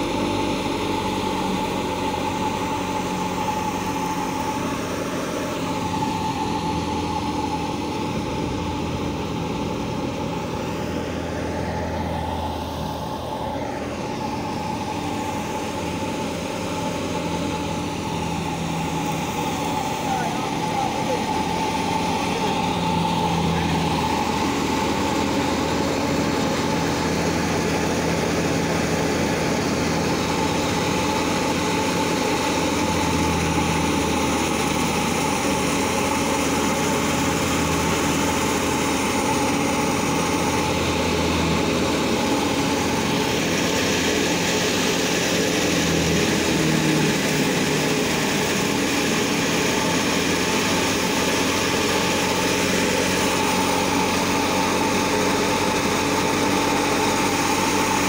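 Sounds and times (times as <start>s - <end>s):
steady machine whine: 0.0s - 58.0s
thresher mechanical drone: 0.0s - 58.0s.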